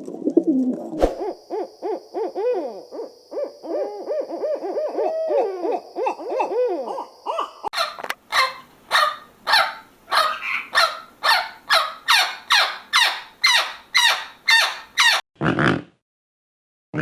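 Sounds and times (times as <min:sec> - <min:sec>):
bird harsh calls: 0:01.2 - 0:15.2.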